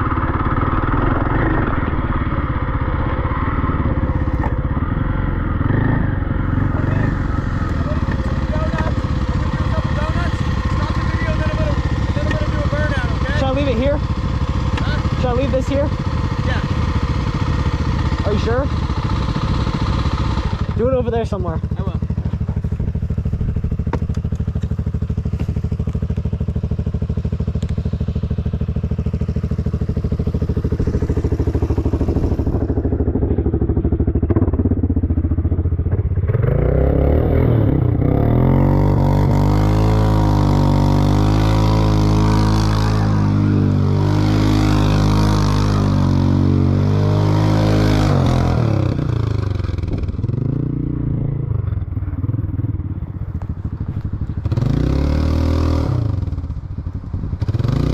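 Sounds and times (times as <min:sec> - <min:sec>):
off-road vehicle engine revving: 0:00.0 - 0:52.8, 0:53.4 - 0:56.6, 0:57.4 - 0:57.9.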